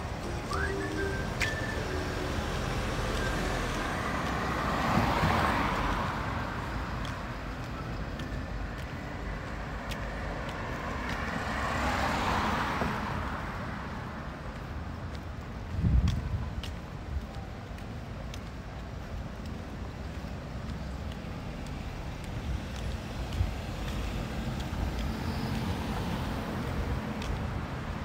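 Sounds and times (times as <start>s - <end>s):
cars passing: 0.0s - 28.0s
low traffic rumble: 0.0s - 28.0s.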